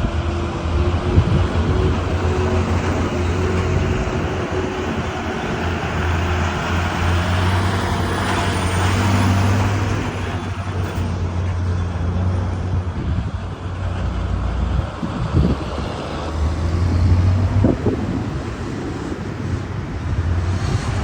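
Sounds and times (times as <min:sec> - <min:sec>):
constant rushing noise: 0:00.0 - 0:21.0.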